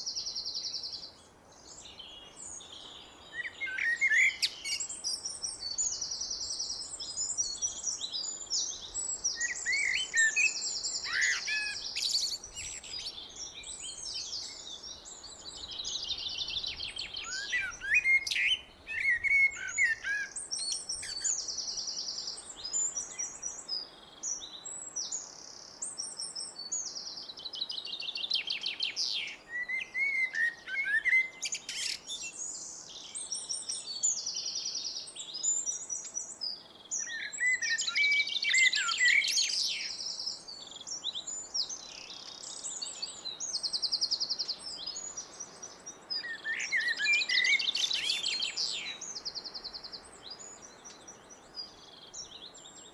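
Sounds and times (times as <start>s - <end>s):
blackbird singing: 0.0s - 25.3s, 26.0s - 52.9s.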